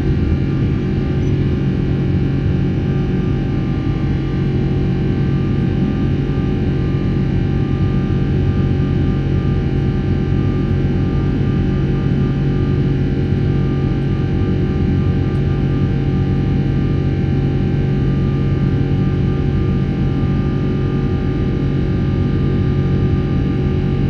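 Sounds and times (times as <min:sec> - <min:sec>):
jet engines droning in cabin: 0:00.0 - 0:24.0.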